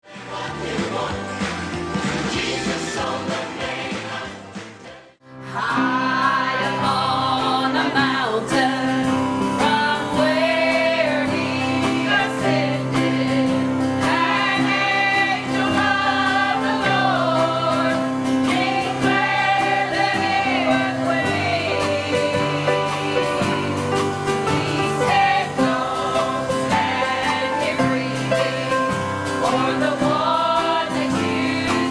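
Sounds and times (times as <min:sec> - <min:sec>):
choir singing gospel song: 0:00.0 - 0:31.9
held instrumental chords: 0:05.3 - 0:31.9.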